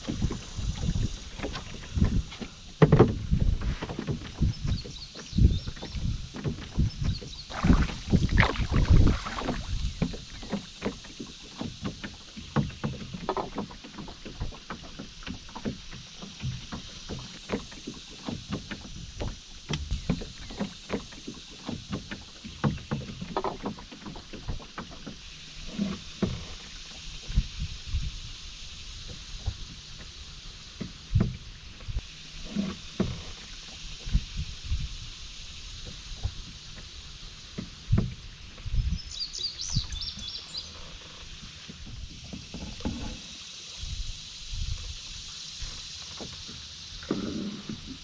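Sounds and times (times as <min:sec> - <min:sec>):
paddle knocks and splashes: 0:00.0 - 0:28.1, 0:29.0 - 0:34.9, 0:35.8 - 0:39.0, 0:39.6 - 0:43.5, 0:45.6 - 0:48.0
moving water hiss: 0:00.0 - 0:48.0.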